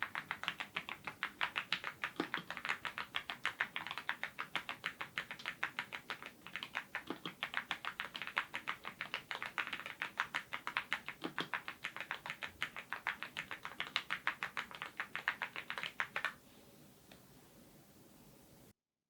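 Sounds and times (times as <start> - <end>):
fast typing on mechanical keyboard: 0.0 - 16.4.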